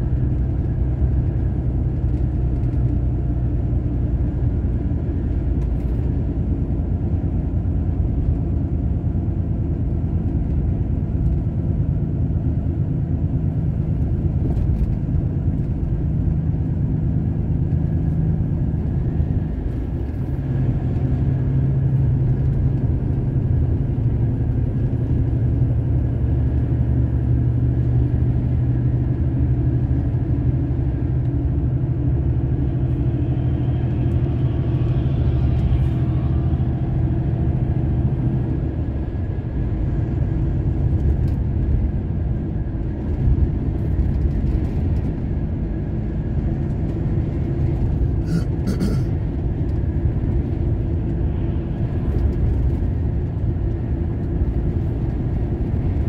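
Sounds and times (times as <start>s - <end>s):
road rumble: 0.0s - 56.0s.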